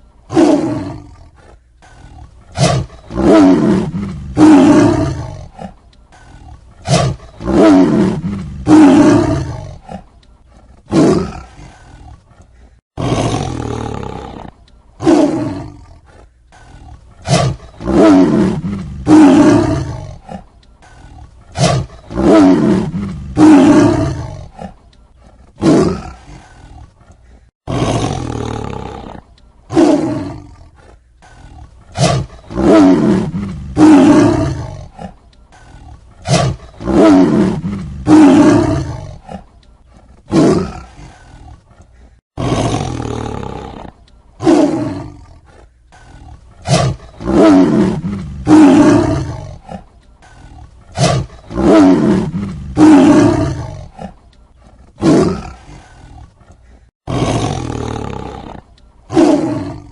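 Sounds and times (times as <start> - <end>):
tiger roaring: 0.3 - 59.9.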